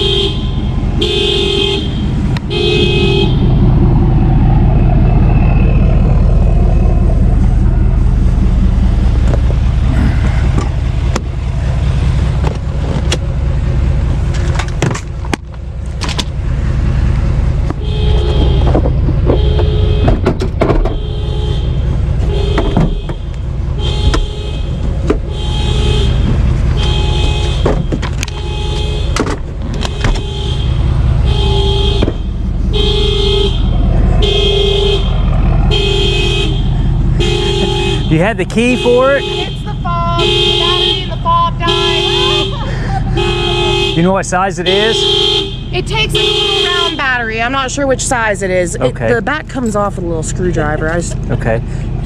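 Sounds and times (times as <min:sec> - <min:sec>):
car horn honking: 0:00.0 - 0:12.8, 0:17.6 - 0:49.9
engine idling: 0:00.0 - 0:52.0.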